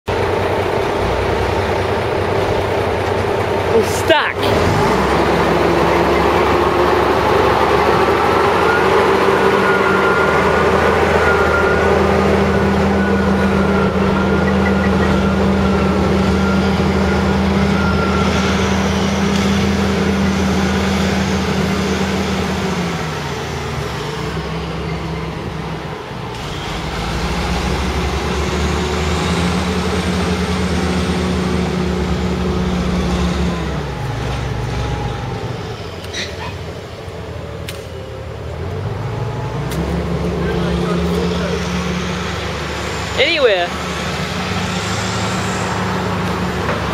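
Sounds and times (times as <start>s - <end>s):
truck diesel engine labouring: 0.1s - 46.9s.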